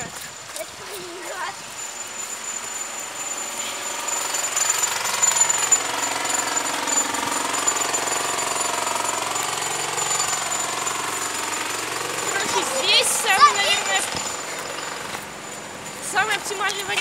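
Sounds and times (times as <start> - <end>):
loud jackhammer-like machine noise: 0.0 - 17.0.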